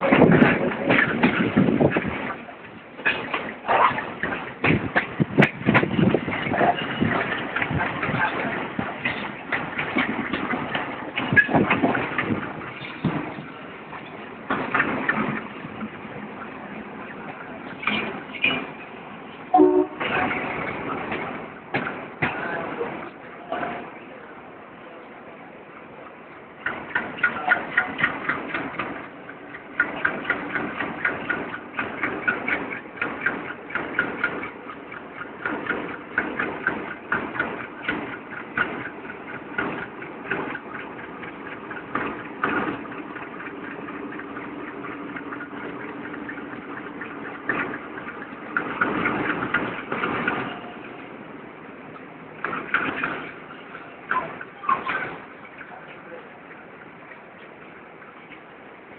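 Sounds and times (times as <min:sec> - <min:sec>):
train rumbling: 0:00.0 - 0:58.9
wheels clattering over rail joints: 0:00.0 - 0:58.9.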